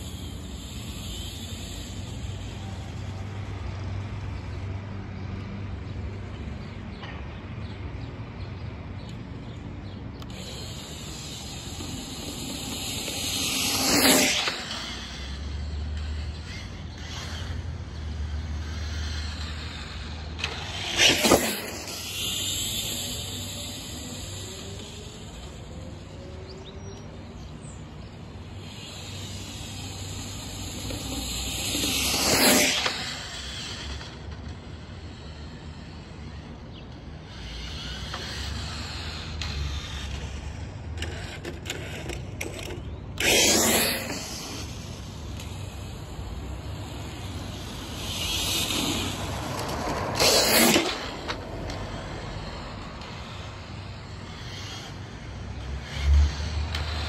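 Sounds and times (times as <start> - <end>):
rc truck motor and tyres passing: 0.0 - 57.0.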